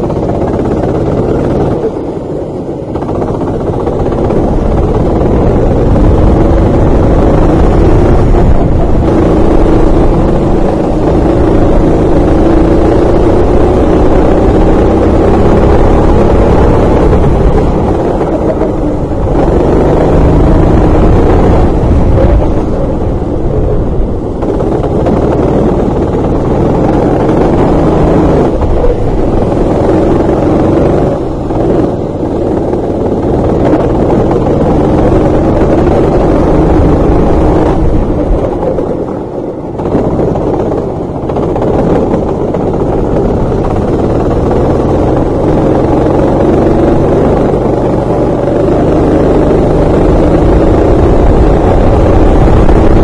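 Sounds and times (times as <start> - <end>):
racing kart engine revving: 0.0 - 53.0.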